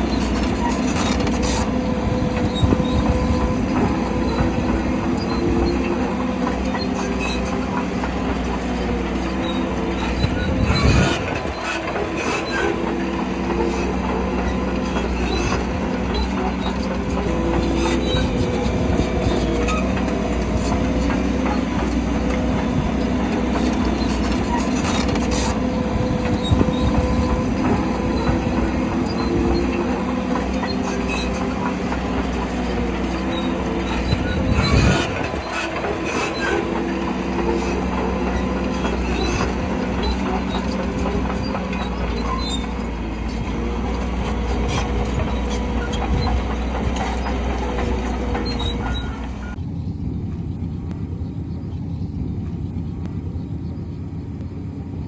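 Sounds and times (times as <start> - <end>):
steel tracks clanking: 0.0 - 49.6
bulldozer diesel engine running: 0.0 - 55.0.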